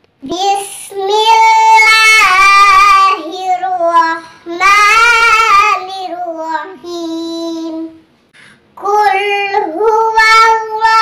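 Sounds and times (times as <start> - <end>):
child reciting melodically: 0.2 - 8.0, 8.8 - 11.0.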